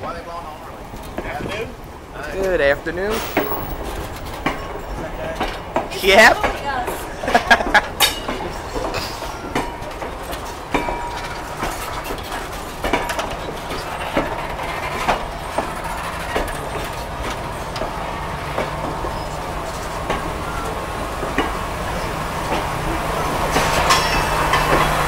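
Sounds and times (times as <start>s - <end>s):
train coaches rolling past: 0.0s - 25.0s
wheels clicking on track: 0.0s - 25.0s.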